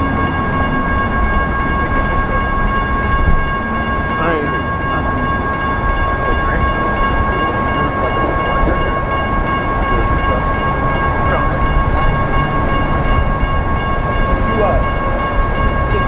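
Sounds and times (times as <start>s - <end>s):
electronic crossing bells ringing: 0.0s - 16.0s
low rumble of traffic: 0.0s - 16.0s
wind: 0.0s - 16.0s.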